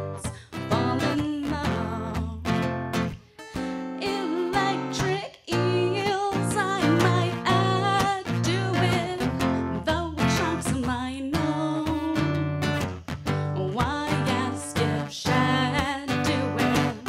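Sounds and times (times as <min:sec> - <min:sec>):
woman singing with vibrato: 0:00.0 - 0:02.5, 0:04.0 - 0:12.5, 0:13.5 - 0:17.0
strummed acoustic guitar: 0:00.0 - 0:17.0.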